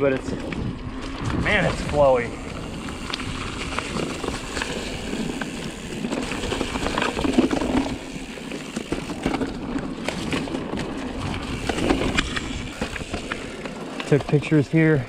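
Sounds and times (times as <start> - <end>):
bike clicking and rattling: 0.0 - 15.0
bike tyres on dirt and leaves: 0.0 - 15.0.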